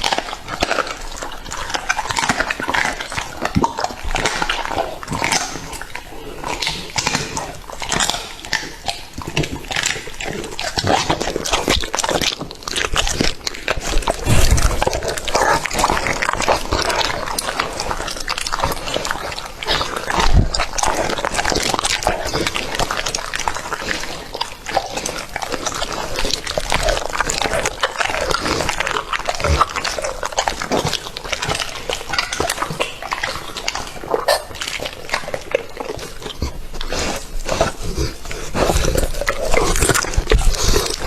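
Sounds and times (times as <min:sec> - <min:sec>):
dog chewing and crunching: 0:00.0 - 0:41.0.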